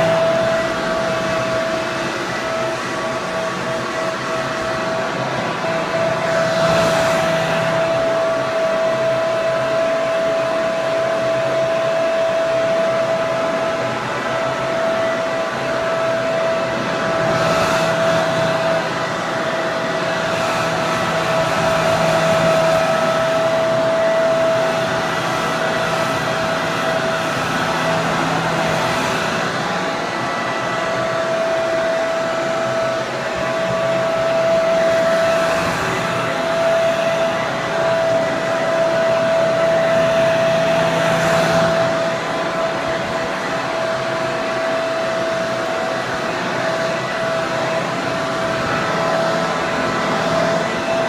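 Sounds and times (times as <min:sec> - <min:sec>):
hair dryer running: 0:00.0 - 0:51.0.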